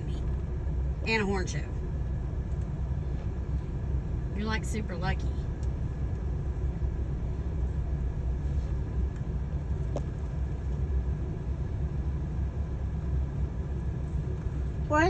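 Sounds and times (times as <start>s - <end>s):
idling engine rumble: 0.0s - 15.0s.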